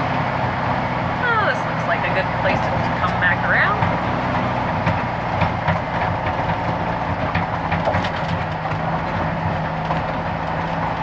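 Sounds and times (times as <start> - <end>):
diesel engine running: 0.0 - 11.0
truck rattles and knocks: 0.0 - 11.0.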